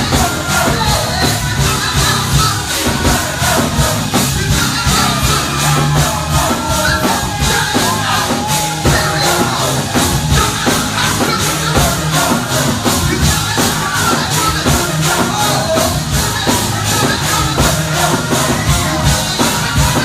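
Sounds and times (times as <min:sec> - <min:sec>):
band with drums and bass: 0:00.0 - 0:20.0
gospel choir singing: 0:00.0 - 0:20.0.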